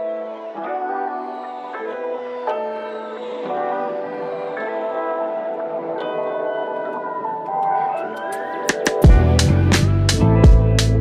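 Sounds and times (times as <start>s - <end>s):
soft held chords music: 0.0s - 11.0s.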